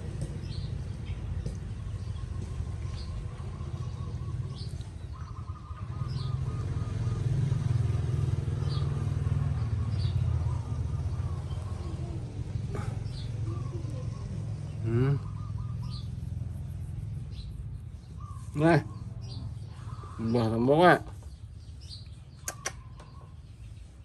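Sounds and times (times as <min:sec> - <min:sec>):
vehicle engine rumbling: 0:00.0 - 0:24.0
bird chirps: 0:00.2 - 0:24.0.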